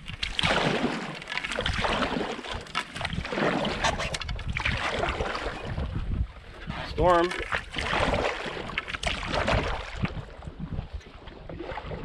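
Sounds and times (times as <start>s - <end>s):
paddle swishing through water: 0.0s - 12.0s.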